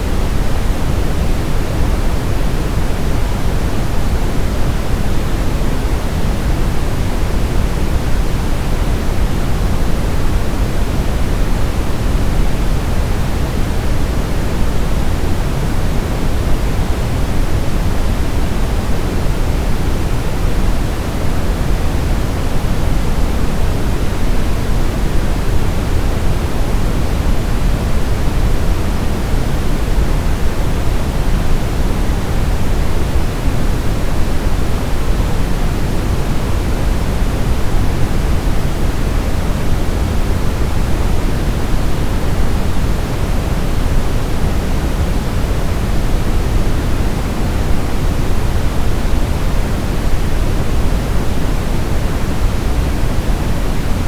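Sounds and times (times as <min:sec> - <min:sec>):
steady rushing pink noise: 0:00.0 - 0:54.0.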